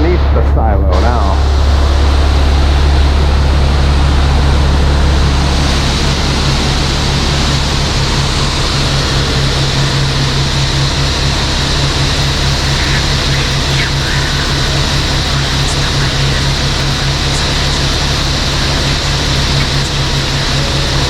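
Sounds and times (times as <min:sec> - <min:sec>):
diesel engine idling: 0:00.0 - 0:21.0
machinery rushing noise: 0:00.0 - 0:21.0.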